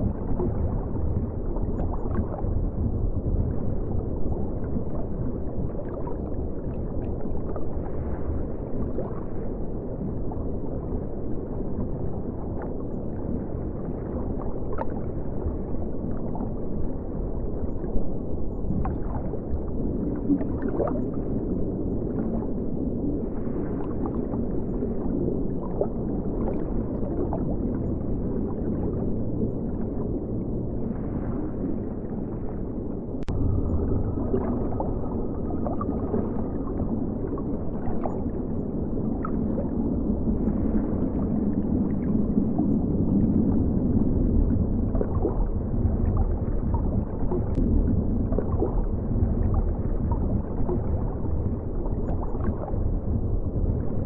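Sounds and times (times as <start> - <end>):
low water swell: 0.0 - 54.0
underwater river flowing: 0.0 - 54.0.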